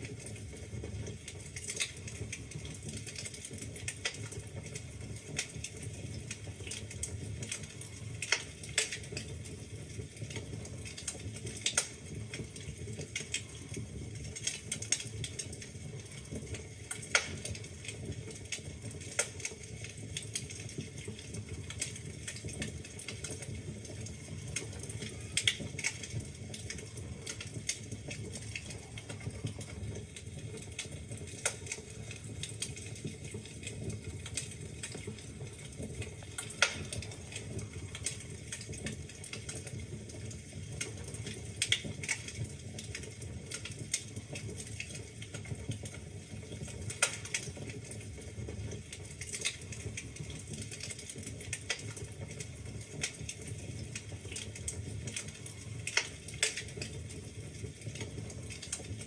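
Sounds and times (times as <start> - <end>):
burning logs crackling and popping: 0.0 - 59.0
flames hissing and rumbling: 0.0 - 59.0.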